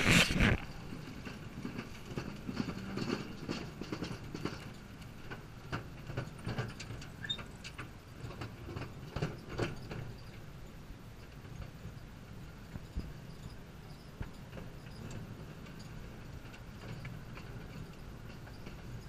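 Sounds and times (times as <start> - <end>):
train rumbling along track: 0.0 - 19.0
wheels clicking on rails: 0.0 - 19.0.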